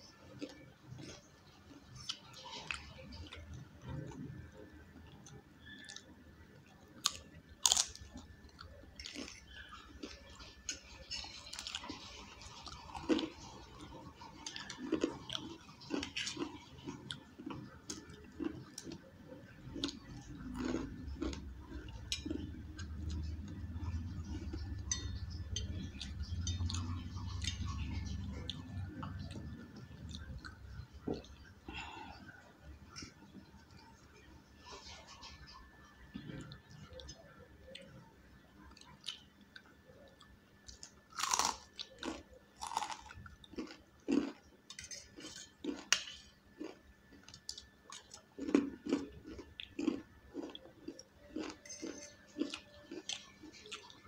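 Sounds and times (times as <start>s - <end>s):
low steady hum: 0.0s - 54.0s
crunchy chewing: 5.0s - 32.4s, 33.0s - 54.0s.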